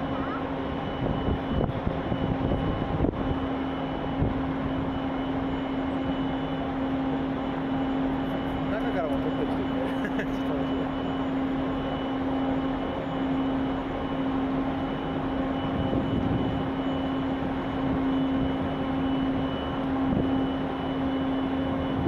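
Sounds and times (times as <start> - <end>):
ship machinery humming: 0.0 - 22.0.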